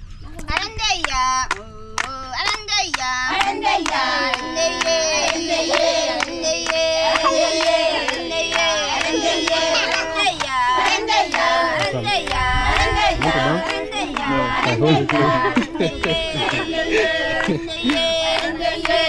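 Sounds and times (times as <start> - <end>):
rhythmic hand clapping: 0.4 - 19.0
group of voices singing: 1.1 - 19.0.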